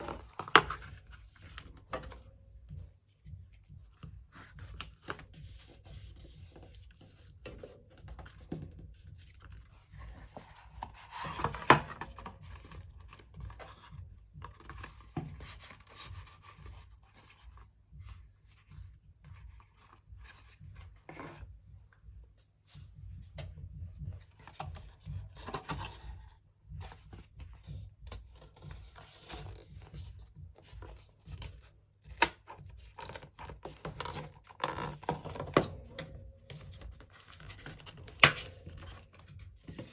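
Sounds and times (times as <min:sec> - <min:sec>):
cardboard and paper rustling: 0:00.0 - 0:02.3, 0:03.6 - 0:21.5, 0:24.1 - 0:39.9.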